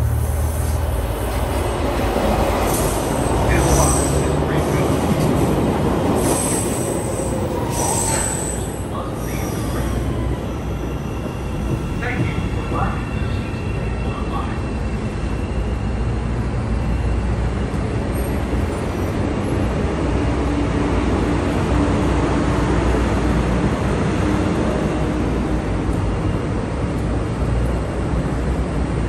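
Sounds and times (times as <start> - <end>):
train rumbling at platform: 0.0 - 29.0.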